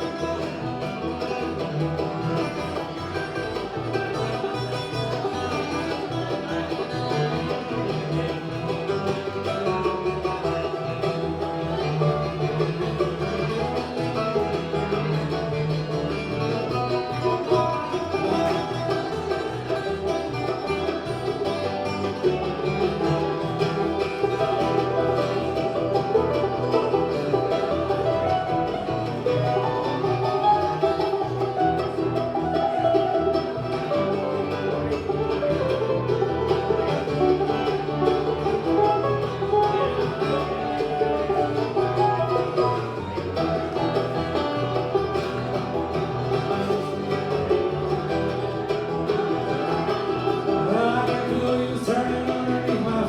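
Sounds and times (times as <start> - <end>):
banjo picking: 0.0 - 53.0
bluegrass band playing: 0.0 - 53.0
guitar picking: 0.0 - 53.0.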